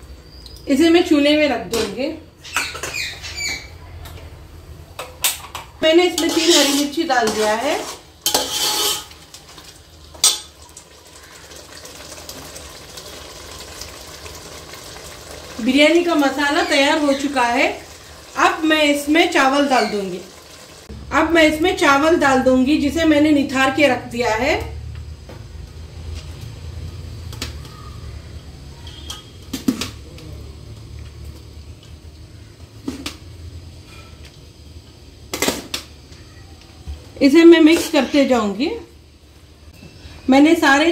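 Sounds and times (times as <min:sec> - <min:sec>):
stew simmering with faint bubbling: 0:02.6 - 0:23.2, 0:24.7 - 0:40.3.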